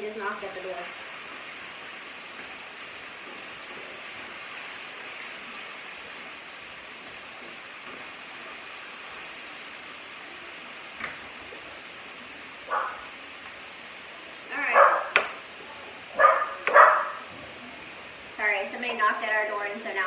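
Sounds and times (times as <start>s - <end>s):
chicken sizzling in skillet: 0.0s - 19.0s.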